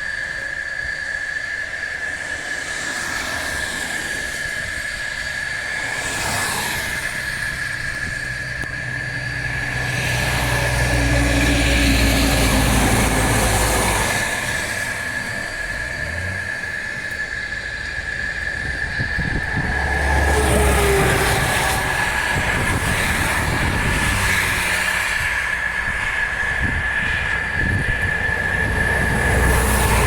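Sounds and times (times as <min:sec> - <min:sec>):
high-pitched insect drone: 0:00.0 - 0:30.0
vehicle engine rumble: 0:00.0 - 0:30.0.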